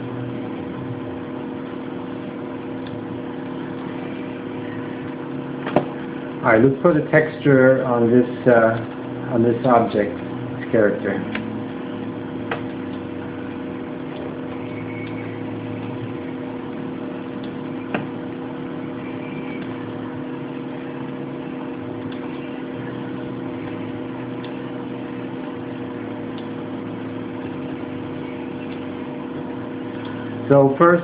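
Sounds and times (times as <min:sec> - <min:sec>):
low tonal hum: 0:00.0 - 0:31.0.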